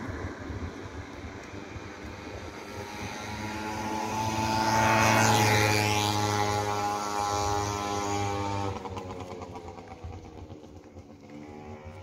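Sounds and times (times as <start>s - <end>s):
passing engine drone: 0.0s - 12.0s.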